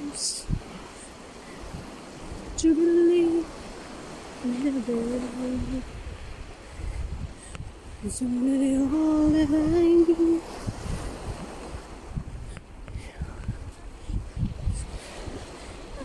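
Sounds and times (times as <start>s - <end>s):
waves washing onto shore: 0.0s - 16.0s
wind on microphone: 0.0s - 16.0s.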